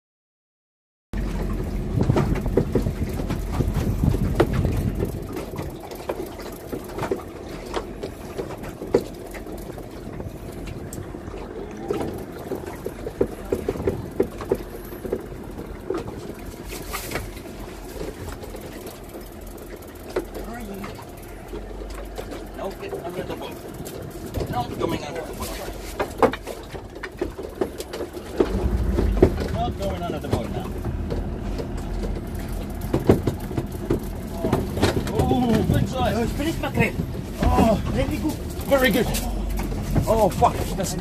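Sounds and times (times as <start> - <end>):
boat engine running: 1.2 - 41.0.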